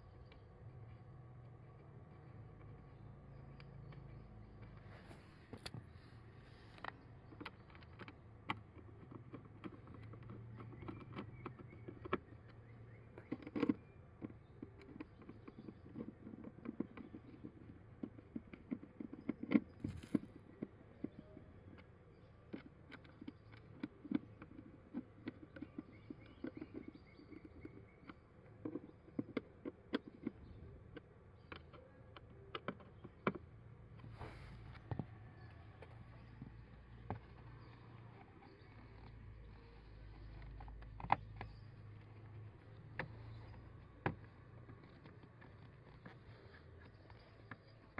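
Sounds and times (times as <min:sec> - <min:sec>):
small clicks and scrapes: 0:00.0 - 0:47.9.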